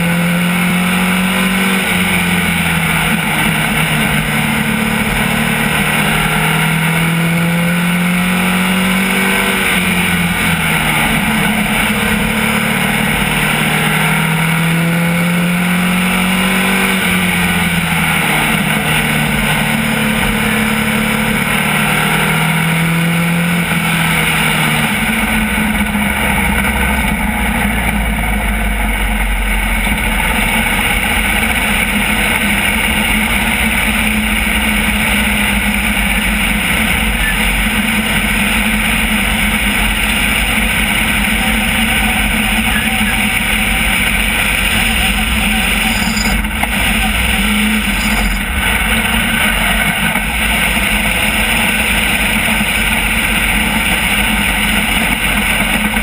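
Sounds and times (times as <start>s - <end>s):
race car engine: 0.0s - 56.0s
road and wind noise: 0.0s - 56.0s.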